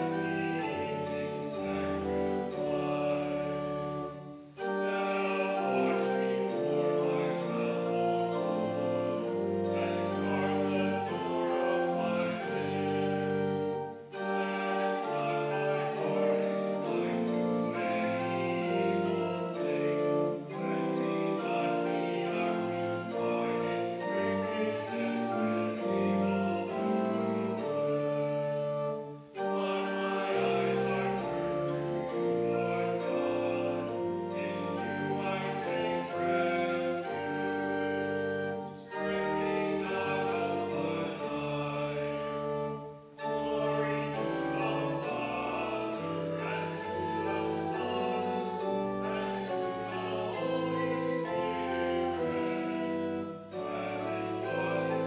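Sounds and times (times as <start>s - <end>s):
slow church music chords: 0.0s - 55.0s.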